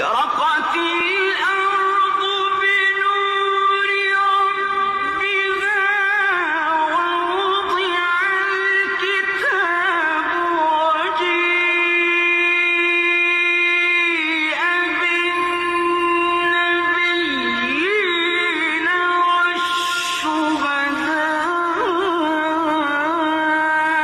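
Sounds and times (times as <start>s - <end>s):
person chanting melodic recitation: 0.0s - 24.0s.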